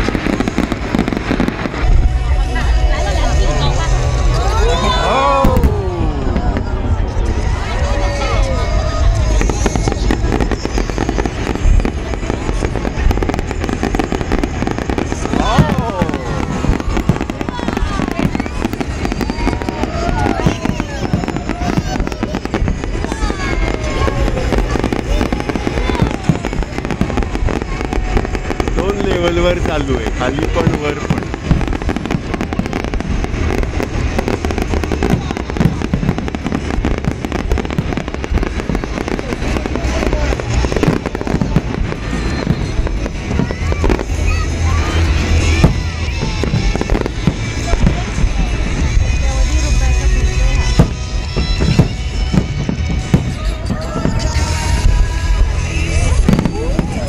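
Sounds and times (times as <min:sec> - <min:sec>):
fireworks crackling and banging: 0:00.0 - 0:57.0
low rumble: 0:00.0 - 0:57.0.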